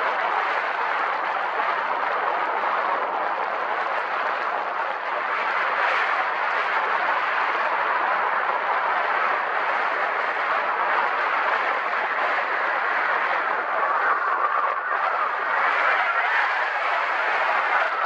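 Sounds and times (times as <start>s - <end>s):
rushing wind: 0.0s - 18.0s.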